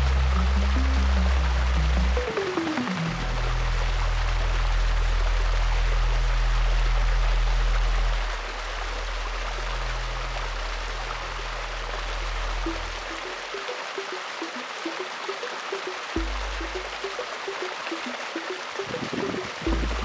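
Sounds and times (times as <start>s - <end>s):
stream water rushing: 0.0s - 6.3s, 8.3s - 20.0s
low musical drone: 0.0s - 13.6s, 16.2s - 20.0s.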